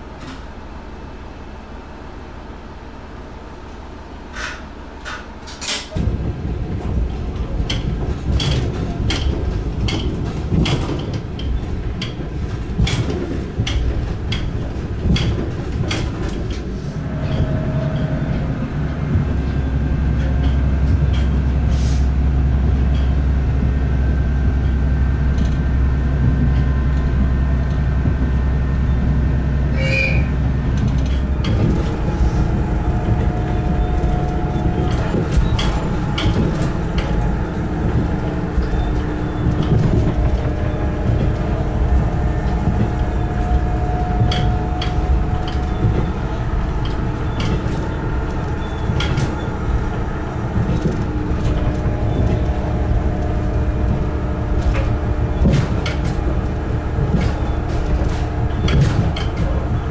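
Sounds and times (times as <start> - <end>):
low engine drone: 0.0 - 59.9
train wheels clicking on rails: 3.7 - 59.9.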